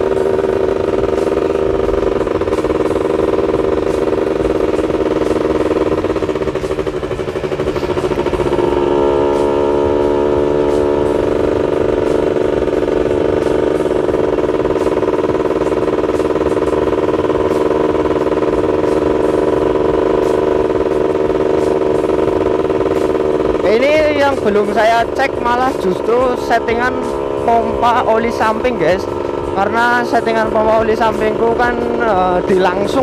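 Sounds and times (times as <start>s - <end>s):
two-stroke motorcycle engine running: 0.0s - 33.0s.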